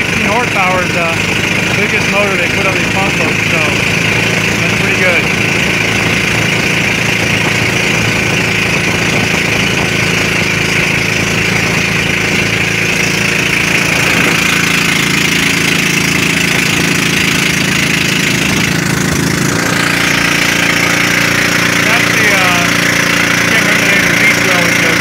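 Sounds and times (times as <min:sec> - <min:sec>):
boat engine running: 0:00.0 - 0:25.0
water rushing past hull: 0:00.0 - 0:25.0.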